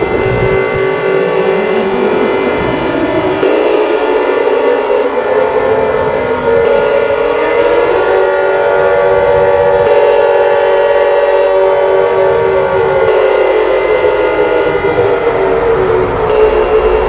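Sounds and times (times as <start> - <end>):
emergency alert alarm: 0.0 - 17.0.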